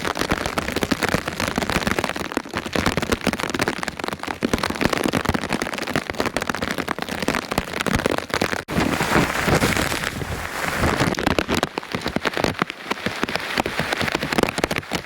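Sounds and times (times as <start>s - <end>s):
heavy rain patter: 0.0s - 15.0s.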